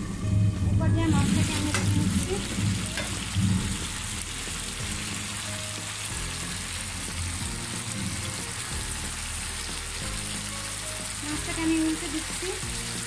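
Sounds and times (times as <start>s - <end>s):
fish frying in a pan: 1.0s - 13.0s.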